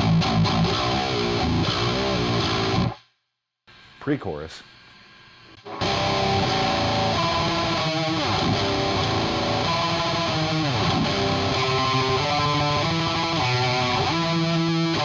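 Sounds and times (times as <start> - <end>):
distorted electric guitar riff: 0.0 - 3.0, 5.6 - 15.0.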